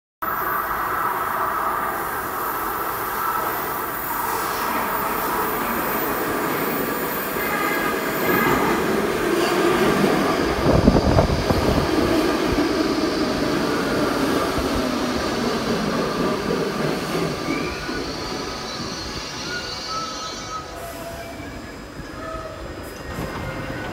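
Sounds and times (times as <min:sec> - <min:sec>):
train wheels running on rails: 0:02.1 - 0:23.9.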